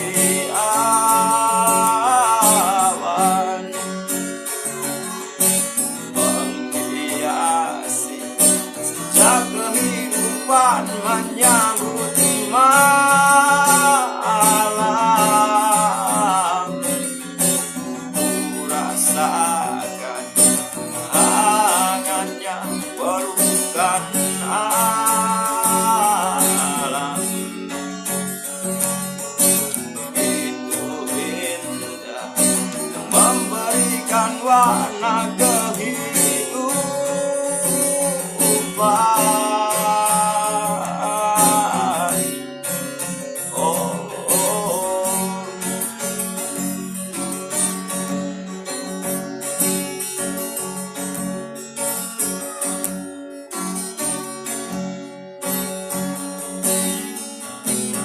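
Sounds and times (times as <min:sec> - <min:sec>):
acoustic guitar strumming chords: 0:00.0 - 0:58.0.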